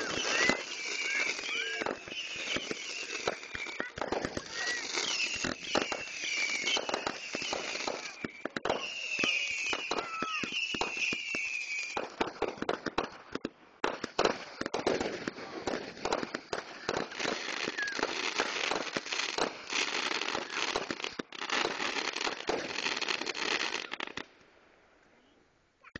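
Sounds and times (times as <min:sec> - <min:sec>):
fireworks bangs and crackling: 0:00.0 - 0:24.5.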